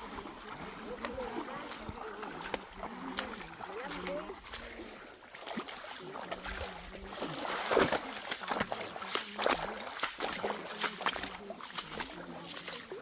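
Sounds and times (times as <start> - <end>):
faint voices: 0.0 - 13.0
water splashing: 0.0 - 13.0.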